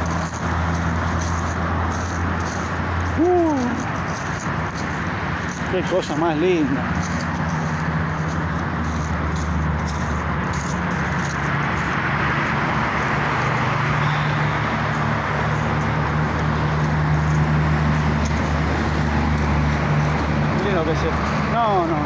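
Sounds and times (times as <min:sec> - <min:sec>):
engine hum: 0:00.0 - 0:22.0
tyre and road noise: 0:00.0 - 0:22.0.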